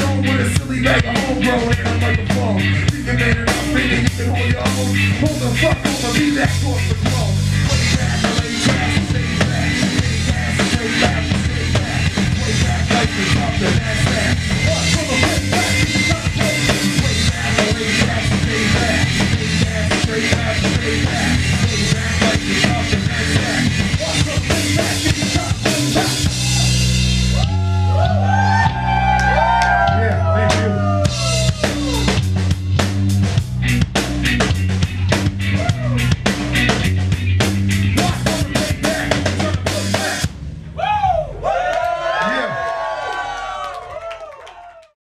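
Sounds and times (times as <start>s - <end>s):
guitar: 0.0s - 40.3s
drum kit: 0.0s - 41.4s
bass guitar: 0.0s - 43.7s.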